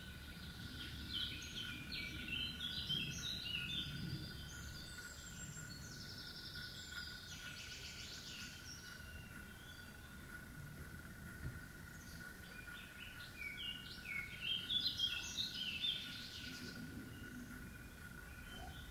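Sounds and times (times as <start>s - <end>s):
songbird singing: 0.0s - 18.9s.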